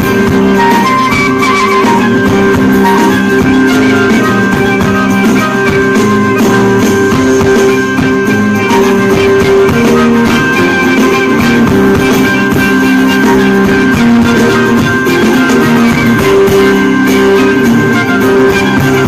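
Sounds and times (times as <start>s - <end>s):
amplified live fusion music: 0.0s - 19.0s.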